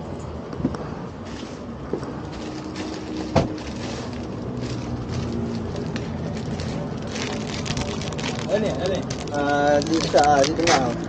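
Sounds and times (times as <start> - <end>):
faint engine hum: 0.0 - 11.0
road traffic rumble: 0.0 - 11.0.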